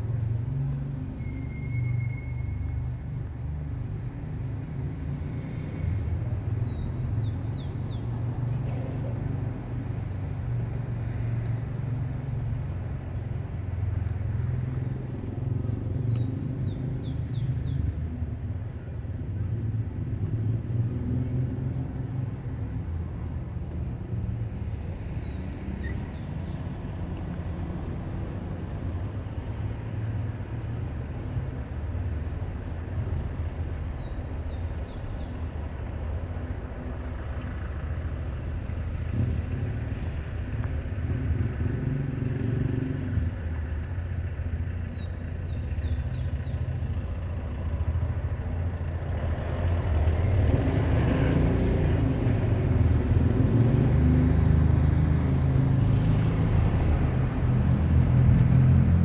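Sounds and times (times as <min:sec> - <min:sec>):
car traffic rumble: 0:00.0 - 0:59.0.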